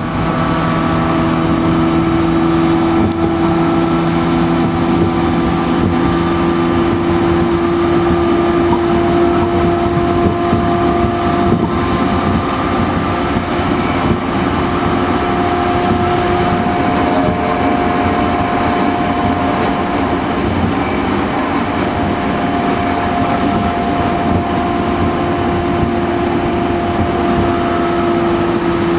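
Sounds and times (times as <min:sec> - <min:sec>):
electric train motor whine: 0:00.0 - 0:28.9
train wheel and rail rumble: 0:00.0 - 0:28.9.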